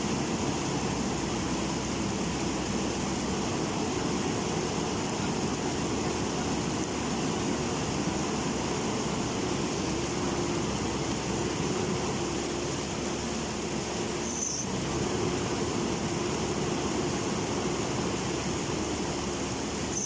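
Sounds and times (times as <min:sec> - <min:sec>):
diesel engine running: 0:00.0 - 0:20.0
river rushing: 0:00.0 - 0:20.0.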